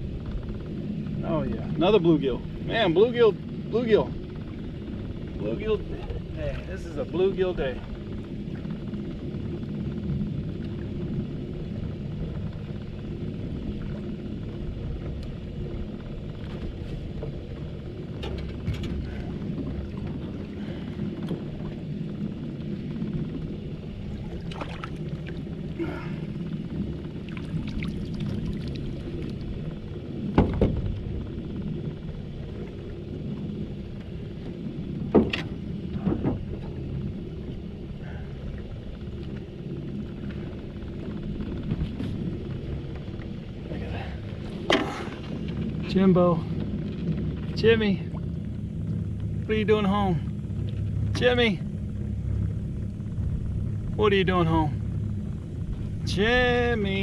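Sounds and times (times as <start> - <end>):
boat low rumble and hum: 0.0 - 57.0.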